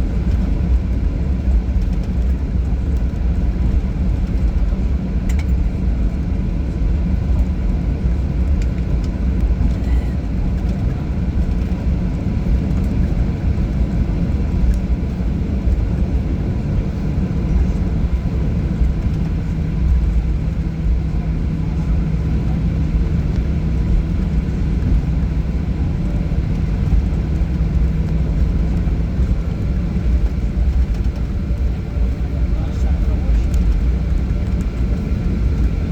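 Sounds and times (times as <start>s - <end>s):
airliner cabin rumble: 0.0s - 35.9s.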